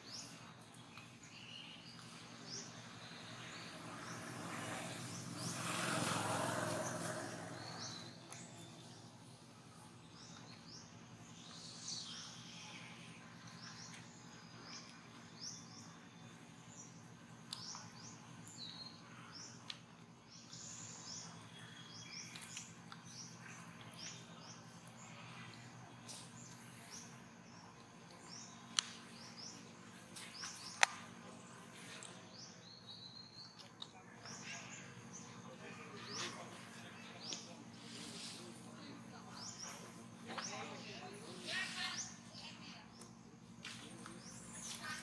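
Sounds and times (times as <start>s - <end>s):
birds chirping: 0.0s - 45.0s
steady low hum: 0.0s - 45.0s.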